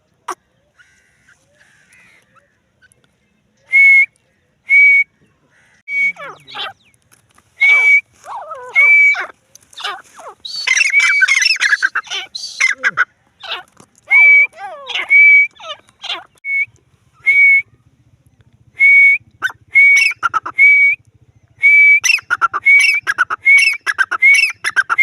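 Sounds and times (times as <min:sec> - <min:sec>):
francolin calling: 0:03.6 - 0:25.0.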